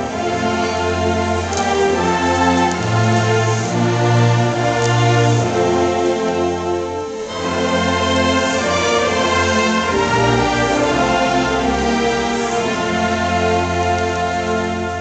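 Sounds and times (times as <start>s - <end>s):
brass band accompaniment: 0.0s - 15.0s
choir singing: 0.0s - 15.0s.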